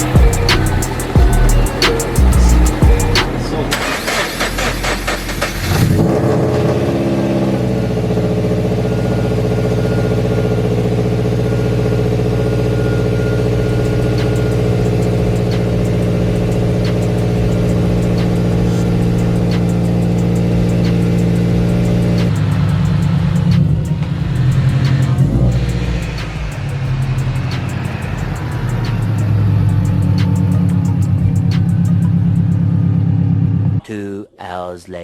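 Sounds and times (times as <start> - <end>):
car engine idling: 0.0 - 33.8.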